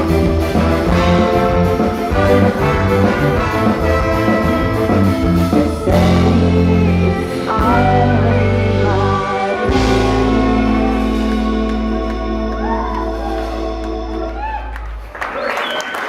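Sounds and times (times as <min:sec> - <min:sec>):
live reggae ska band playing: 0:00.0 - 0:14.5.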